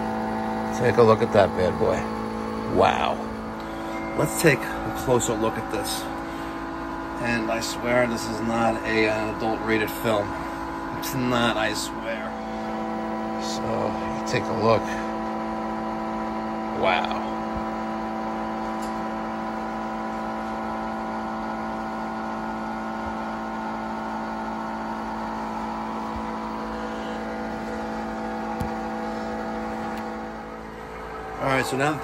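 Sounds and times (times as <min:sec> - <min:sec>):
electric pump motor humming: 0:00.0 - 0:32.0.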